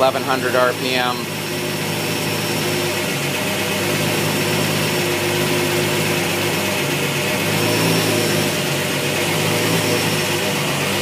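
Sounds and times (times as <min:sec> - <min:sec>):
car engine idling fast: 0:00.0 - 0:11.0.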